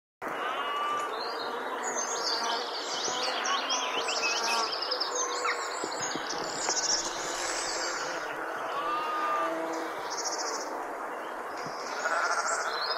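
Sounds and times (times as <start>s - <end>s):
birds chirping and trilling: 0.3s - 12.9s.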